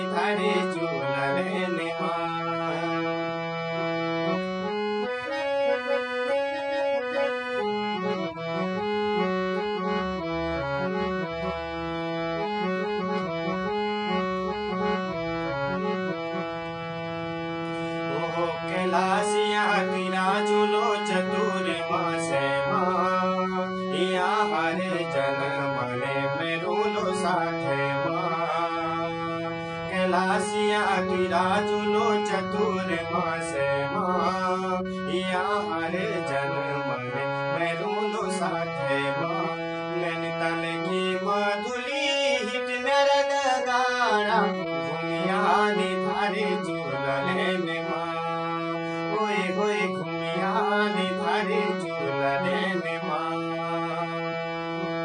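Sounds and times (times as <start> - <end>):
man singing: 0.0 - 3.8, 5.0 - 8.3, 17.8 - 55.0
harmonium chords: 0.0 - 55.0.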